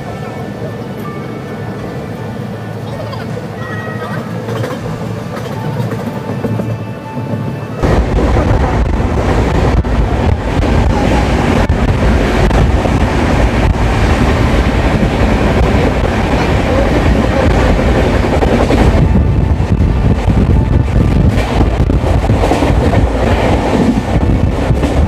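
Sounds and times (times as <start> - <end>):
train wheels rumbling on track: 0.0 - 25.0
rail joint clicks: 3.6 - 9.0, 9.7 - 25.0.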